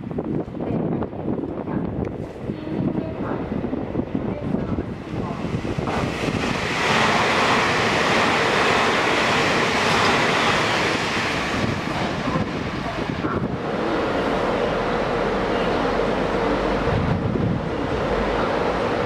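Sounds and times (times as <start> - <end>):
train rushing past: 0.8 - 19.0.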